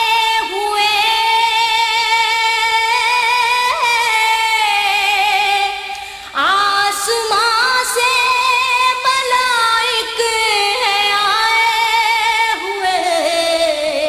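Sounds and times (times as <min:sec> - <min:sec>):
woman singing a hymn: 0:00.0 - 0:14.0.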